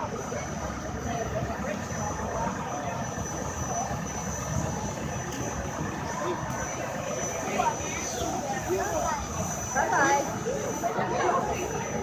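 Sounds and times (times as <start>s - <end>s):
murmur of outdoor crowd: 0.0s - 12.0s.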